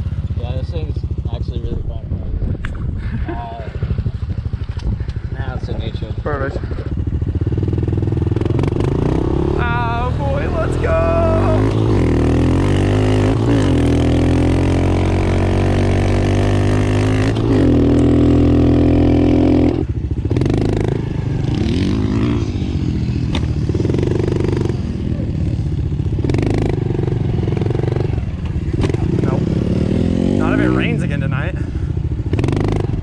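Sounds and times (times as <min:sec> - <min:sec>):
dirt bike engine revving: 0:06.2 - 0:33.0.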